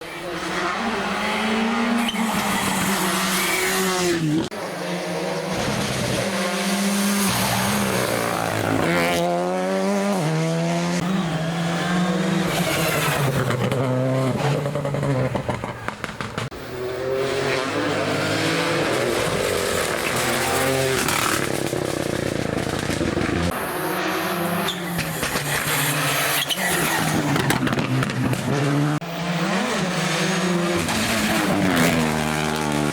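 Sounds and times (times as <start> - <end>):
rally car engines revving: 0.0 - 32.9.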